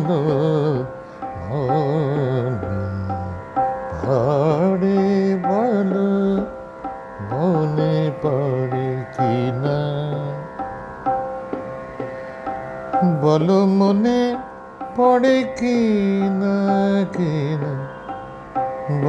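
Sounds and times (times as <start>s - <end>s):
man singing: 0.0s - 10.7s, 12.9s - 19.0s.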